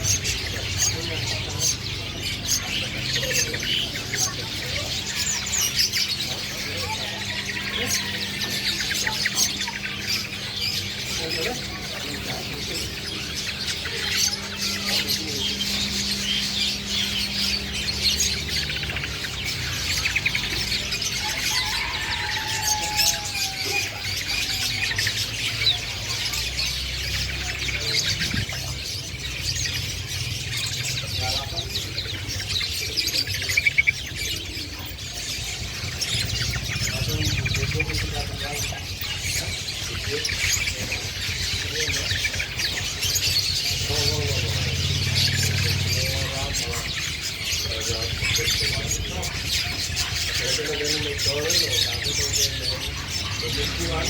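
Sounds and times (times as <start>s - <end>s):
bird singing chirps: 0.0s - 54.0s
shrike harsh chatter and trills: 0.0s - 54.0s.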